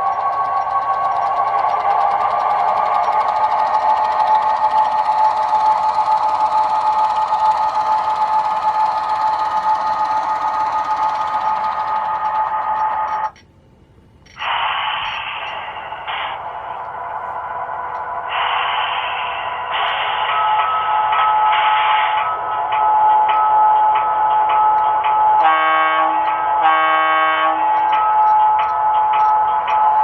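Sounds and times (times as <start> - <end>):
tinny model locomotive diesel sound: 0.0 - 30.0.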